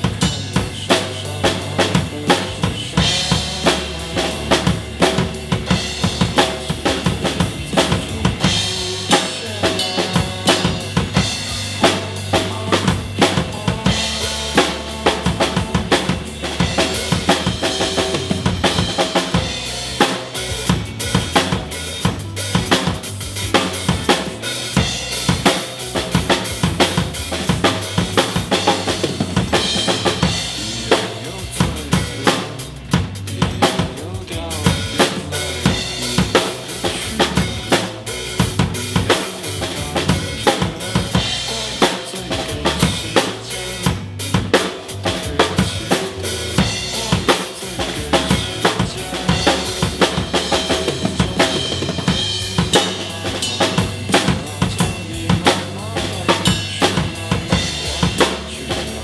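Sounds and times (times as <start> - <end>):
backing bass and guitar: 0.0 - 59.0
rock drum kit playing: 0.0 - 59.0.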